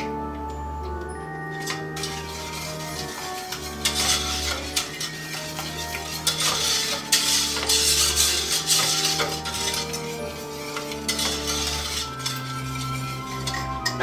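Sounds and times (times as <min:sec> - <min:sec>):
background music sustained notes: 0:00.0 - 0:14.0
whisk scraping a saucepan: 0:01.6 - 0:14.0.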